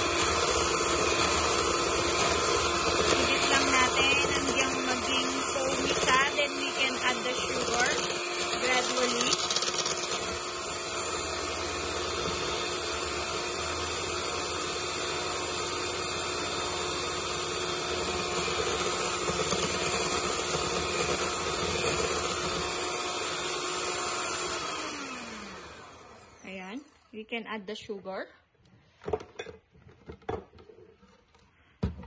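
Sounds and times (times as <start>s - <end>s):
electric mixer whipping in metal bowl: 0.0s - 27.1s.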